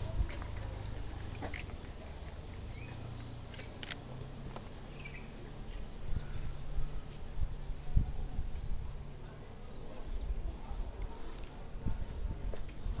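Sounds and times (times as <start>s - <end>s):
low street rumble: 0.0s - 13.0s
small birds chirping: 0.0s - 13.0s.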